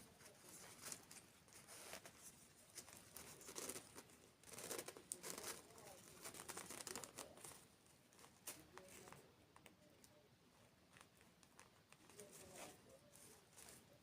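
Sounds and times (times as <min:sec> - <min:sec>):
faint chewing sounds: 0:00.0 - 0:14.0.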